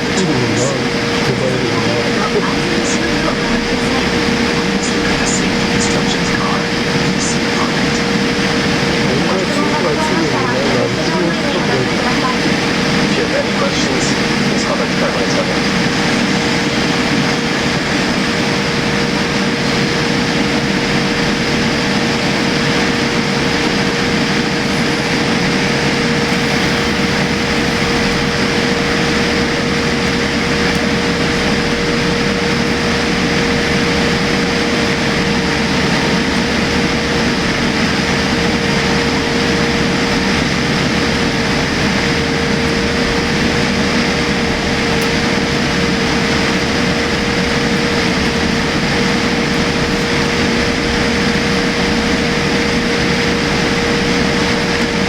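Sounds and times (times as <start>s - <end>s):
airliner cabin engine rush: 0.0s - 55.0s
mid-pitched hum: 0.0s - 55.0s.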